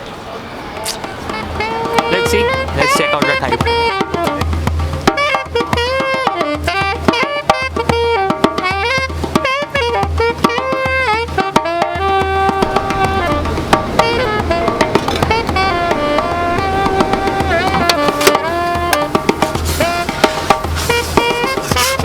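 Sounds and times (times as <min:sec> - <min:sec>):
drum beat with tabla percussion: 0:00.9 - 0:22.0
sliding melody line: 0:01.0 - 0:22.0.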